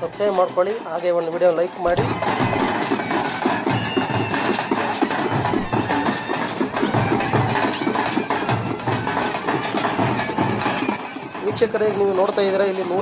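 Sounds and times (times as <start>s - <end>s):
folk drums beating fast rhythm: 0.0s - 13.0s.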